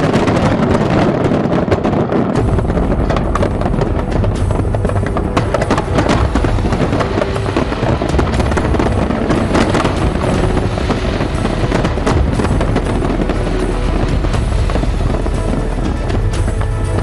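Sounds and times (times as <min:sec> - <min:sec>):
fireworks bangs and crackles: 0:00.0 - 0:17.0
music: 0:00.0 - 0:17.0.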